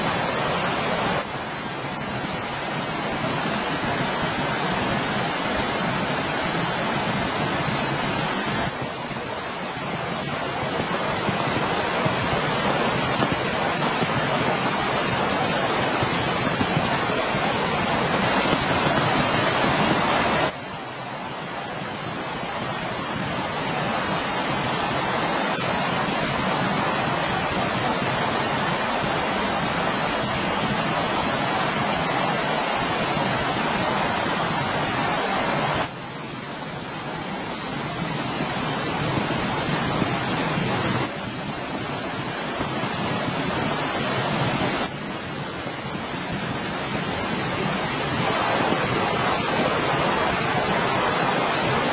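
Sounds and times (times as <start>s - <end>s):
heavy rain: 0.0s - 51.9s.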